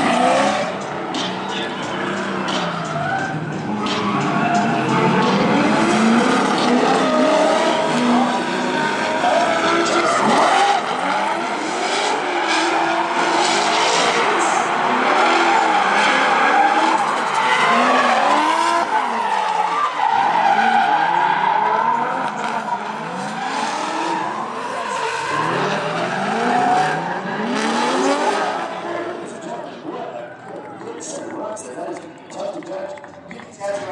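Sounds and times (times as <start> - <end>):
car engine revving hard: 0.0 - 1.3, 2.0 - 19.2, 20.2 - 29.1.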